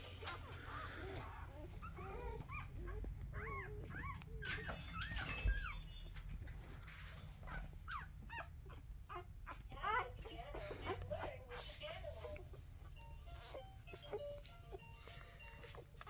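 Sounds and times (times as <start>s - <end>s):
puppies whimpering and squeaking: 0.0s - 16.0s.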